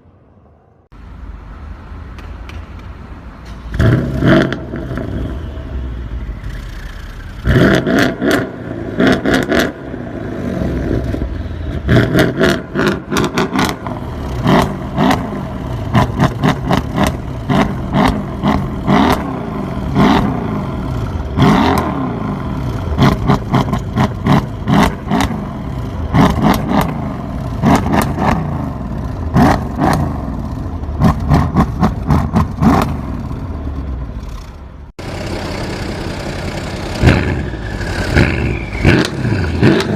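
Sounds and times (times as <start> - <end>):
car engine revving: 6.4 - 34.4, 35.0 - 39.9.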